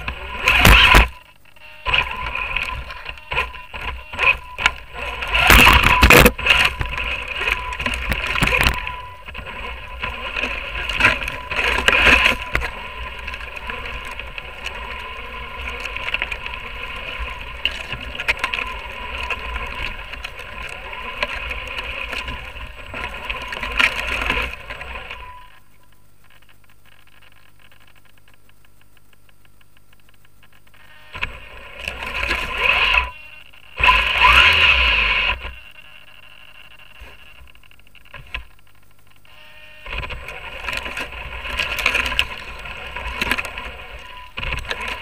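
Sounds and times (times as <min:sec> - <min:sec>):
bike rattling over dirt trail: 0:00.0 - 0:01.2, 0:01.9 - 0:25.5, 0:31.1 - 0:38.6, 0:39.9 - 0:45.0.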